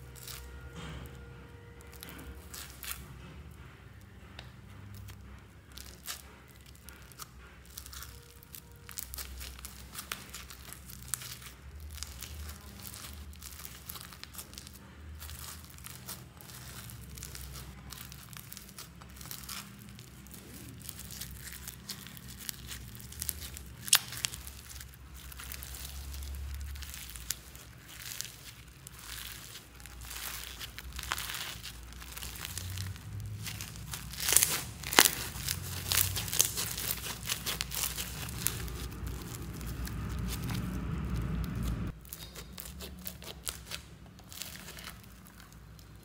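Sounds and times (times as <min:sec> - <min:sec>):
slime tearing: 0:00.0 - 0:03.1, 0:04.4 - 0:46.0
foam beads crackling and crunching: 0:00.0 - 0:46.0.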